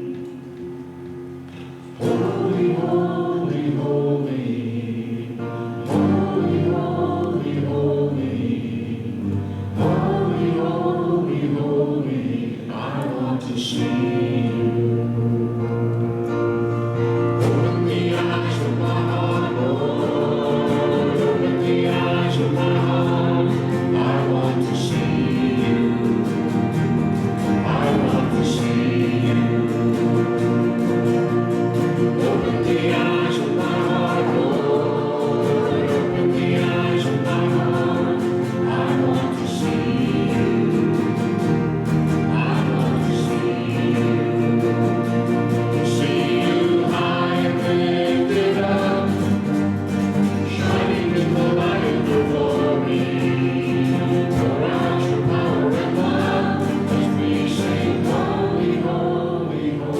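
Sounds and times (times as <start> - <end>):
group singing a hymn: 0.0 - 59.9.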